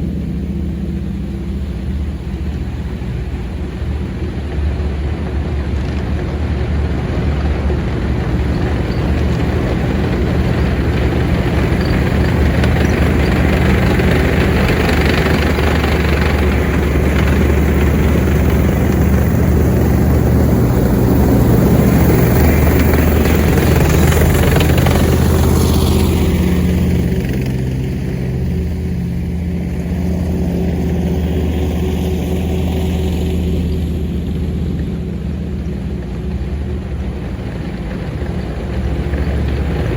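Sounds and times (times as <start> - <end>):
tank engine driving past: 0.0 - 39.9.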